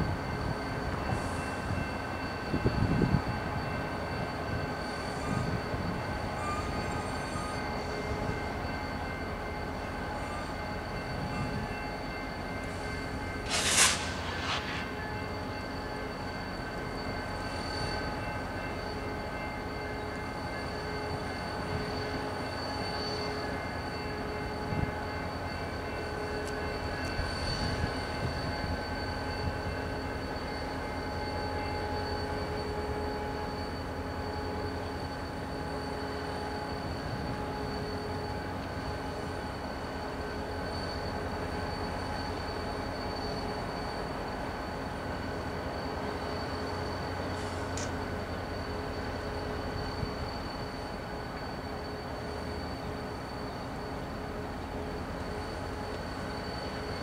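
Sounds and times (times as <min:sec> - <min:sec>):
diesel locomotives droning: 0:00.0 - 0:57.0.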